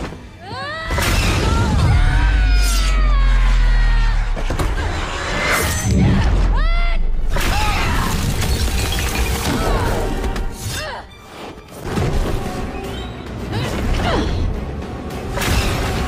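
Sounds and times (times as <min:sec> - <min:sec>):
dramatic action music: 0:00.0 - 0:16.0.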